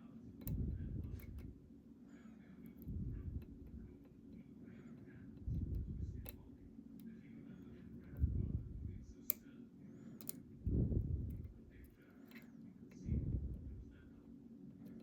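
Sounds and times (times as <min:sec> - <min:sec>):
low muffled noise: 0:00.0 - 0:15.0.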